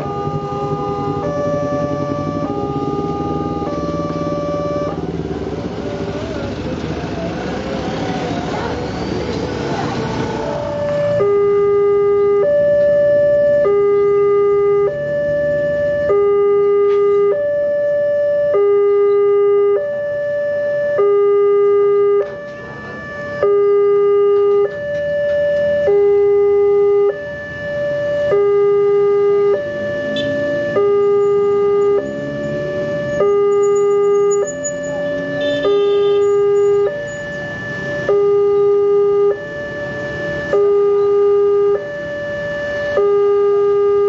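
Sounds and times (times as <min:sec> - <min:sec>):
two-tone level crossing alarm: 0:00.0 - 0:05.1, 0:10.4 - 0:44.0.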